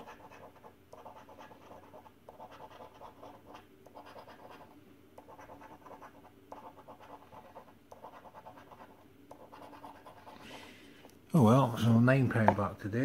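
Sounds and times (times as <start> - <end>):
coin scratching scratchcard: 0.0 - 10.5.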